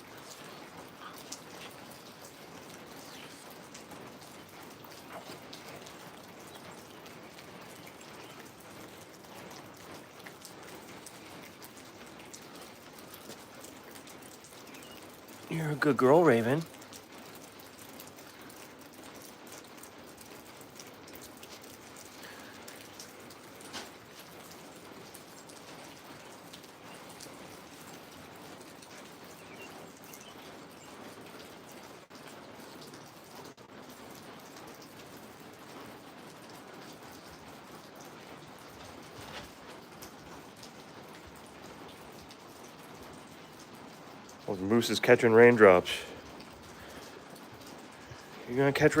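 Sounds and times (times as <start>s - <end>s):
raindrops ticking: 0.0s - 49.0s
steady rain falling: 0.0s - 49.0s.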